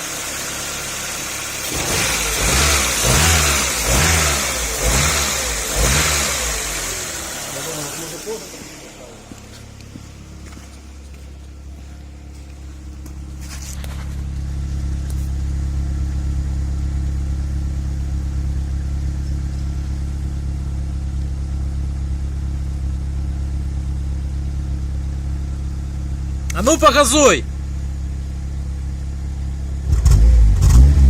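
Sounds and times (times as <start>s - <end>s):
car engine idling: 0.0s - 30.1s.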